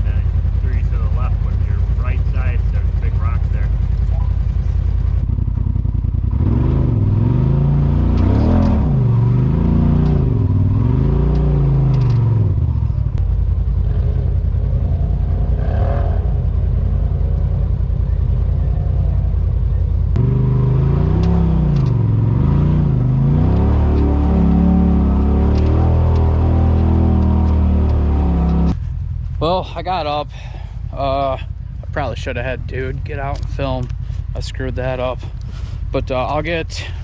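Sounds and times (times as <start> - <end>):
engine revving: 0.0 - 28.9, 29.7 - 37.0.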